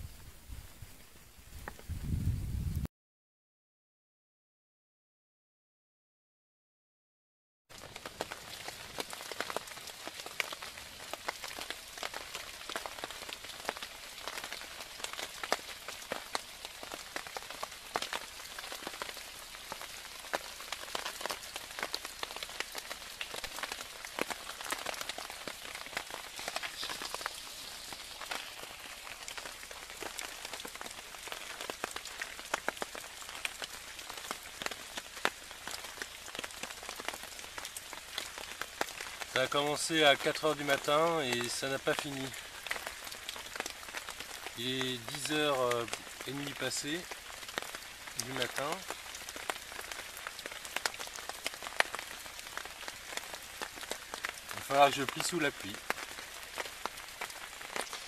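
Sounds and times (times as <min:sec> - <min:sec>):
rain drops ticking on a tarp: 0:00.0 - 0:02.0, 0:07.7 - 0:58.0.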